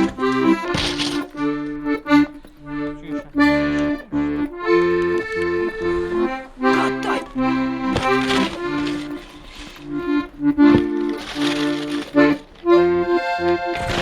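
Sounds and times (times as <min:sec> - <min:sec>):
accordion music: 0:00.0 - 0:14.0.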